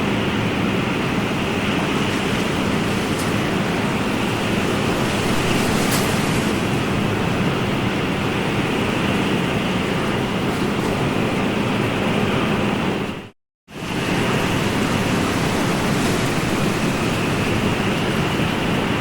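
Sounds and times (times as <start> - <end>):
ocean waves washing: 0.0 - 19.0.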